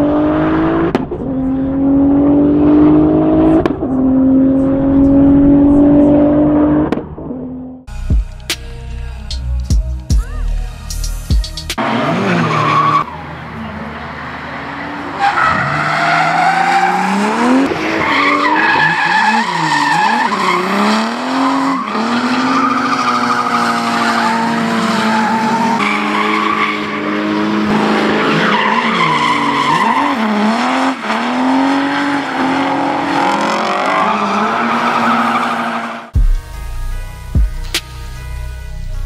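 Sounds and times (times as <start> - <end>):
car engine revving: 0.0 - 7.9, 11.8 - 39.0.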